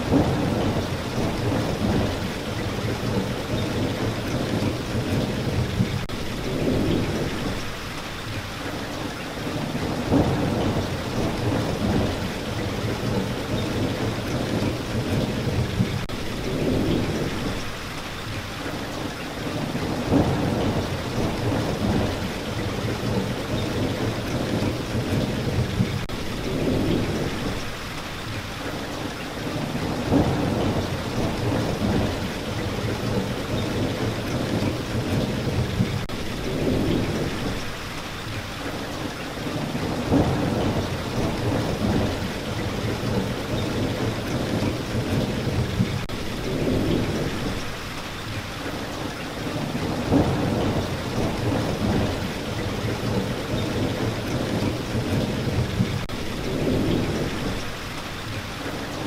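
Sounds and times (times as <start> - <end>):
low rolling thunder: 0.0 - 7.8, 9.4 - 17.8, 19.4 - 27.8, 29.4 - 37.8, 39.4 - 47.8, 49.4 - 57.8
steady rain hissing: 0.0 - 59.0.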